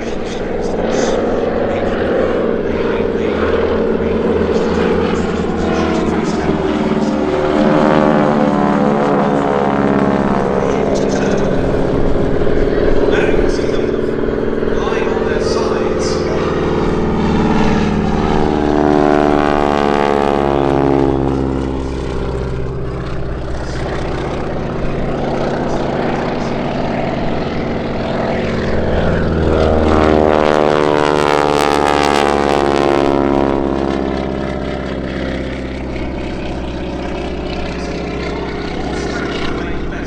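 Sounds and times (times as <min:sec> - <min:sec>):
propeller aircraft flying past: 0:00.0 - 0:40.0.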